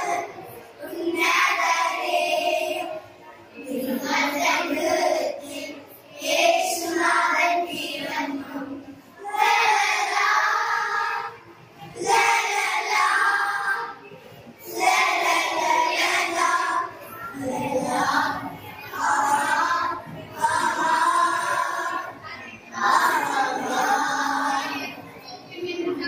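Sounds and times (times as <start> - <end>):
children's choir singing through speaker: 0.0 - 26.0.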